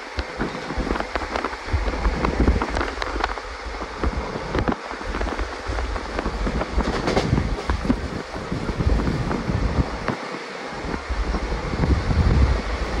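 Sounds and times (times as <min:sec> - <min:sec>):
train clicks and knocks: 0:00.0 - 0:13.0
train low rumble: 0:00.0 - 0:13.0
wind buffeting microphone: 0:00.0 - 0:13.0.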